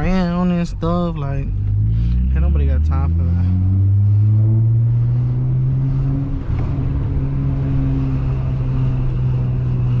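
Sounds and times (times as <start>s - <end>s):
car engine drone from inside cabin: 0.0s - 10.0s.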